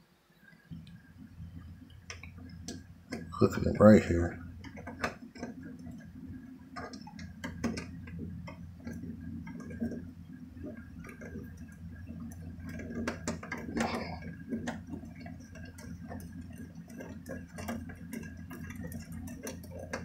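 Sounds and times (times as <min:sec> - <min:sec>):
steady low hum: 0:00.3 - 0:20.0.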